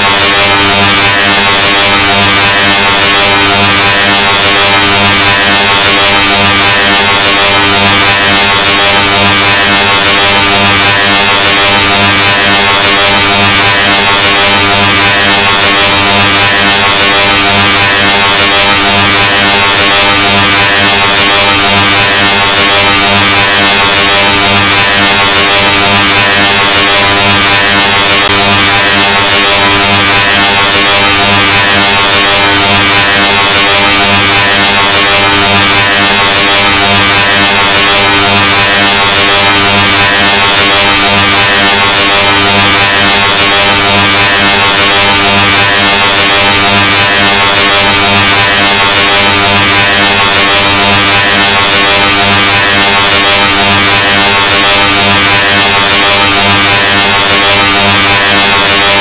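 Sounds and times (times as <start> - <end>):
distorted loud buzz: 0.0 - 59.0.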